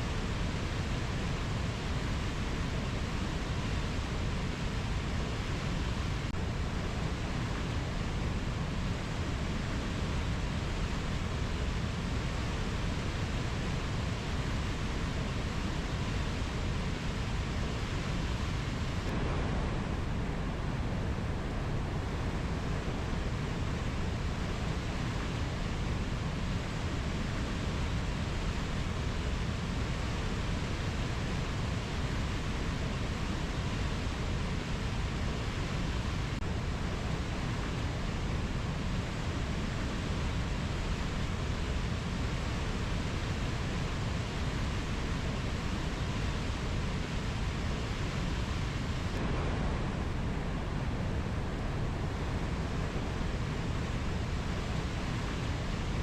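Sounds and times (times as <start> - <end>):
steady hiss of rainforest ambience: 0.0 - 56.0.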